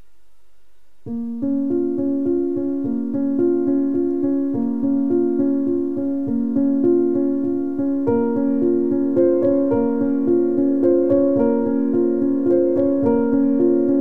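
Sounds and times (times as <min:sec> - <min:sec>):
faint low hum: 0:00.0 - 0:14.0
keyboard playing repeated chords: 0:01.0 - 0:14.0.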